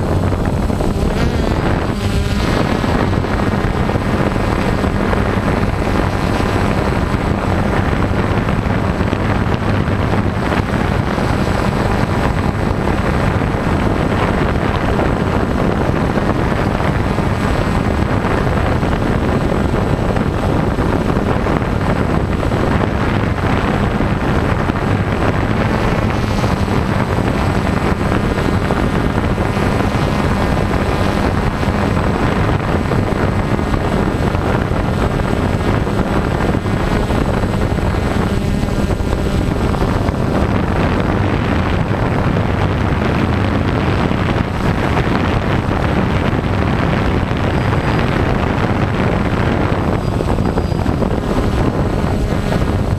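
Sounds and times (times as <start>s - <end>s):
drone motors humming: 0.0s - 52.9s
wind on microphone: 0.0s - 52.9s.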